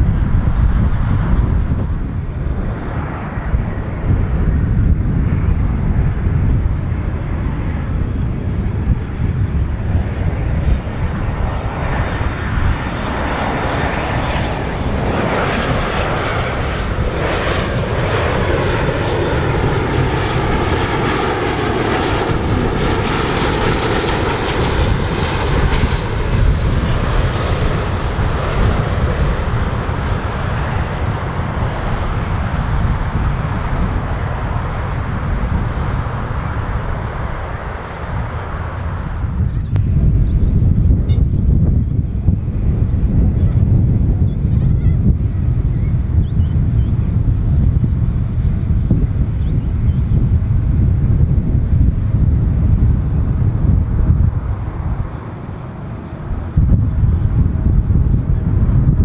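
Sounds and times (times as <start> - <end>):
jet airliner passing overhead: 0.0 - 59.0.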